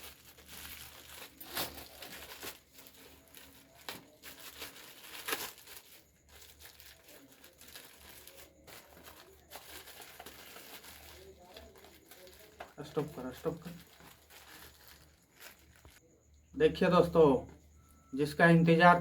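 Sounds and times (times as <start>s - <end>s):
packaging torn and crinkled: 0.0s - 16.0s.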